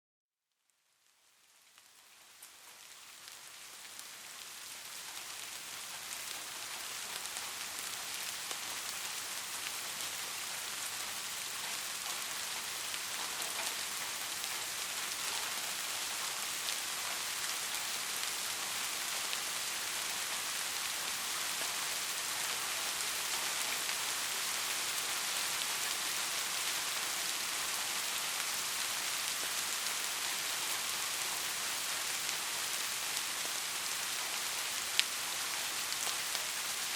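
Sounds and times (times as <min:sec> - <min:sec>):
rain falling: 0:00.9 - 0:36.9.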